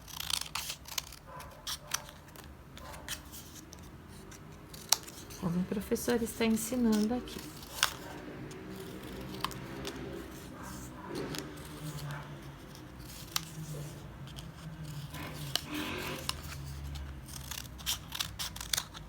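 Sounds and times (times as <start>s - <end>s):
scissors snipping paper: 0.0s - 19.0s.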